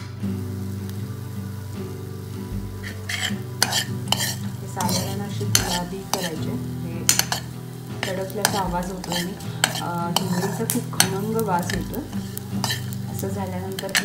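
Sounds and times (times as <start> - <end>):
light sizzle: 0.0 - 14.0
spoon scraping seeds in pan: 2.7 - 14.0.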